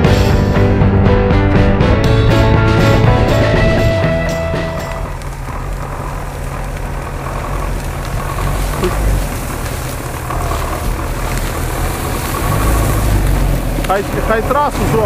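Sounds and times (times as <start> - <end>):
truck engine driving: 0.0 - 15.0
truck driving through dry weeds: 1.8 - 15.0.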